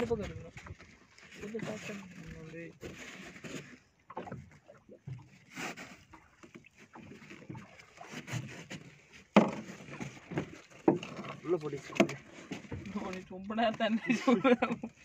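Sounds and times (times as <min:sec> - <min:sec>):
knocks and handling noises on boat: 0:00.0 - 0:15.0.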